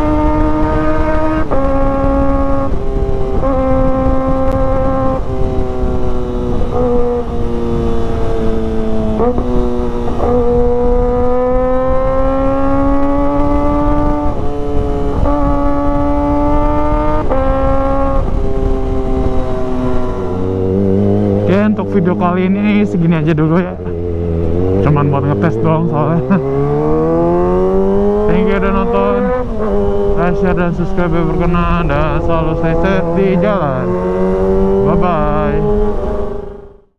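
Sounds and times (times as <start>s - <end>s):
wind rush on microphone: 0.0s - 36.8s
motorcycle engine revving high: 0.0s - 36.9s.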